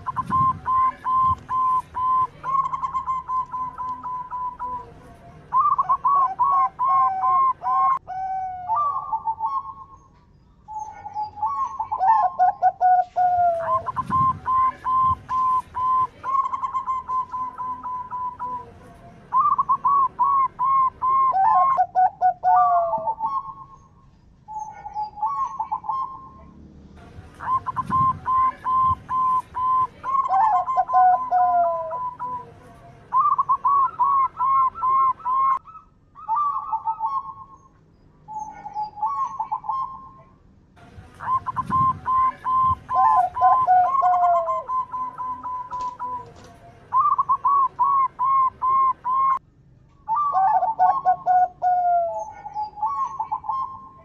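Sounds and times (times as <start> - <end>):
dove cooing: 0.0 - 10.1, 10.7 - 23.8, 24.5 - 26.5, 27.4 - 37.7, 38.3 - 40.3, 41.2 - 49.4, 50.1 - 54.0.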